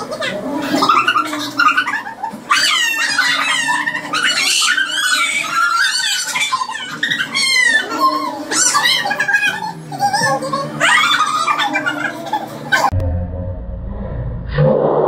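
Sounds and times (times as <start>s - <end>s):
women squealing and laughing: 0.2s - 12.9s.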